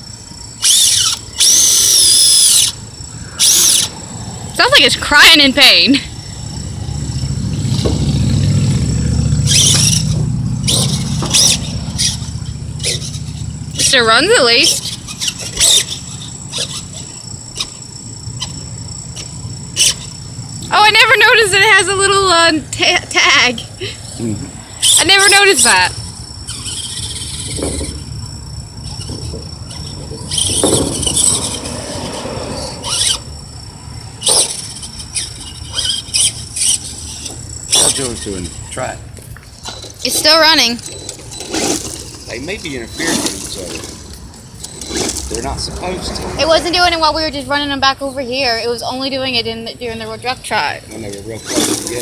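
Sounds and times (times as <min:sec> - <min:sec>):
rc truck motor rattling: 0:00.0 - 0:24.1, 0:24.8 - 0:52.0.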